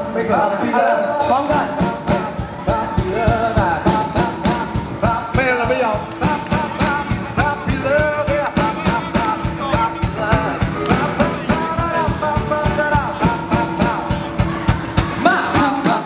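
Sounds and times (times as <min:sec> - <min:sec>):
live band playing pop-rock: 0:00.0 - 0:16.0
person singing: 0:00.0 - 0:16.0.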